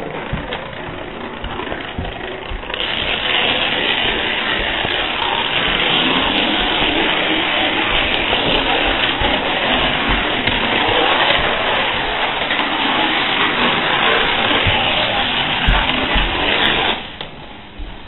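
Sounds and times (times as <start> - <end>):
dominoes toppling on wood floor: 0.0 - 17.2.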